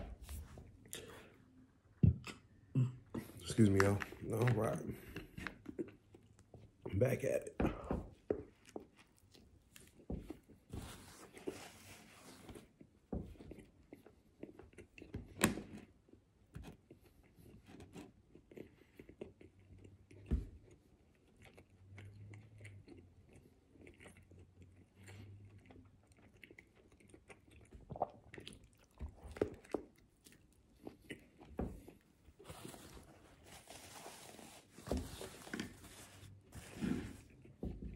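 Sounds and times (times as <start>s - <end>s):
person chewing a sandwich: 0.0s - 6.9s, 7.8s - 37.9s.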